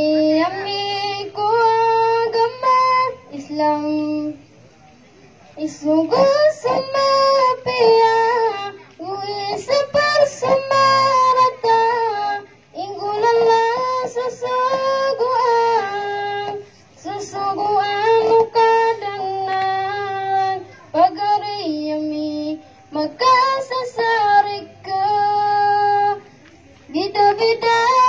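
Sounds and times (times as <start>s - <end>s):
boy singing into a microphone: 0.0s - 4.5s, 5.6s - 28.0s.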